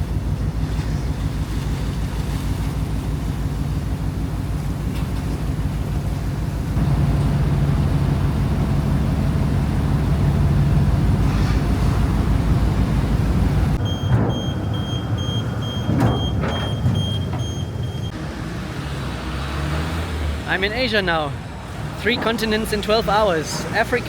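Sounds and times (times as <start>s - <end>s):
ferry engine droning: 0.0s - 24.0s.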